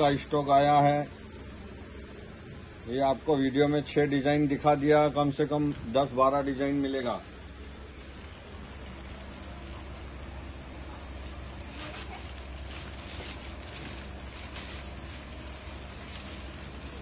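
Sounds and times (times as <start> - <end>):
faint crackling: 0.0 - 17.0
low room hum: 0.0 - 17.0.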